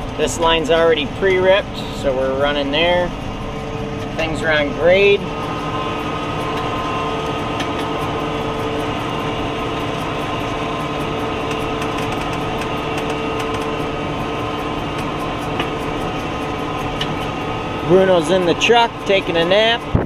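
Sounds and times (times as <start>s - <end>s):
steady whine: 0.0s - 20.0s
tractor diesel engine running: 0.0s - 20.0s.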